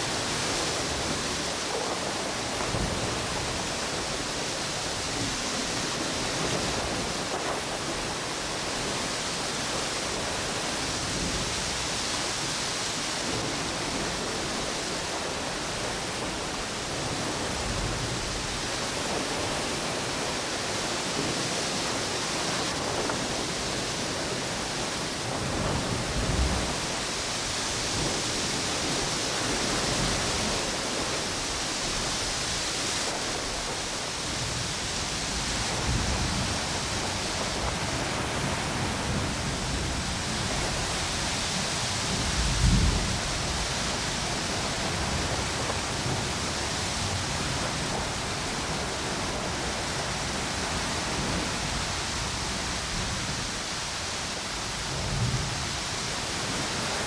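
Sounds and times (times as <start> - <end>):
ocean waves washing on shore: 0.0 - 57.0
storm wind gusts: 0.0 - 57.0.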